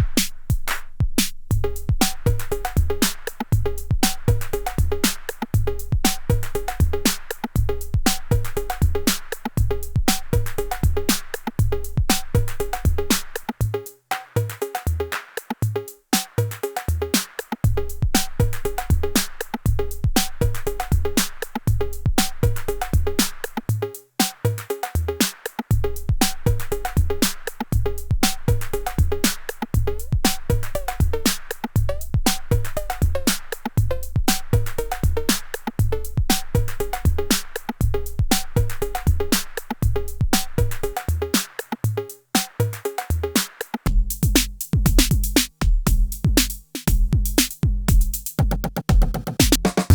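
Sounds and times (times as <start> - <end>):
deep kick drum beat: 0.0 - 13.7, 17.6 - 23.4, 25.7 - 41.0, 43.9 - 49.9
fast hi-hat ticks: 0.0 - 48.4.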